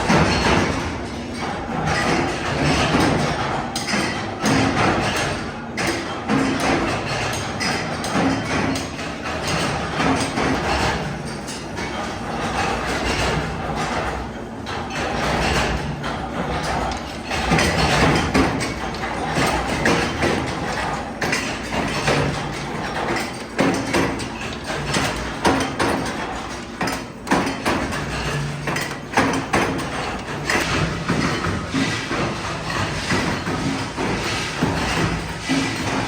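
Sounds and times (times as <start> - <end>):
factory machinery running: 0.0 - 36.0
sharp metal knocks and clanks: 0.0 - 36.0.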